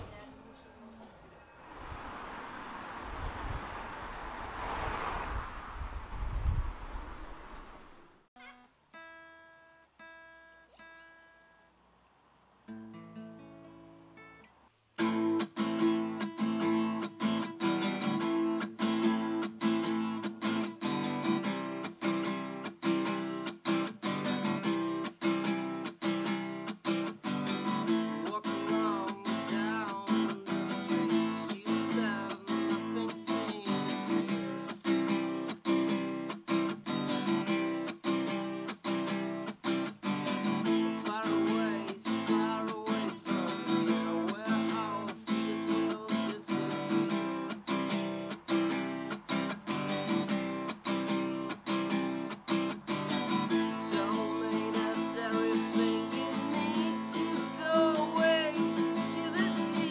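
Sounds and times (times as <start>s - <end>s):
acoustic guitar strumming: 8.4s - 11.5s, 12.7s - 59.9s.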